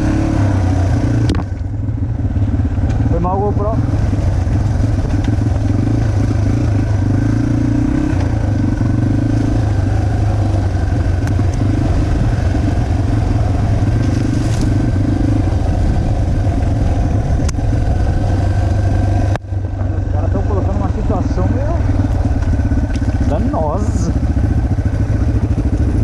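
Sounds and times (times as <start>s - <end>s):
motorbike engine running: 0.0s - 26.0s.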